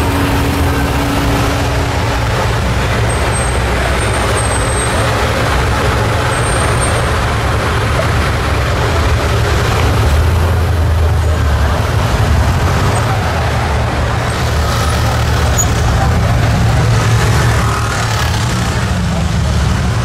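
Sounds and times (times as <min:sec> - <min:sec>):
car engines rumbling: 0:00.0 - 0:20.0
road noise: 0:00.0 - 0:20.0.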